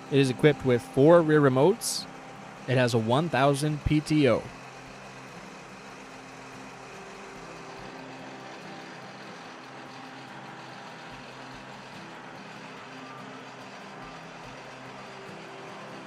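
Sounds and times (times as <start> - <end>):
tractor diesel engine idling: 0.0 - 16.0.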